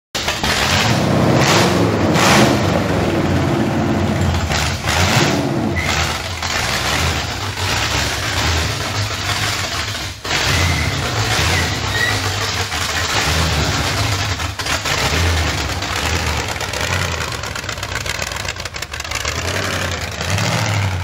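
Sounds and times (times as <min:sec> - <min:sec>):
car engine revving loudly: 0:00.2 - 0:21.0.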